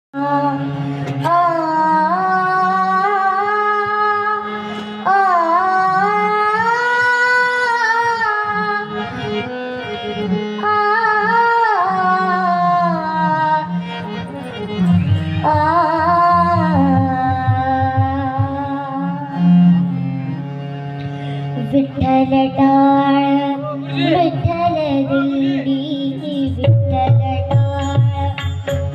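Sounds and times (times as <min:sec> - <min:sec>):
woman singing devotional song: 0:00.2 - 0:09.2, 0:10.5 - 0:14.4, 0:15.4 - 0:19.5, 0:21.6 - 0:28.9
harmonium: 0:00.2 - 0:28.9.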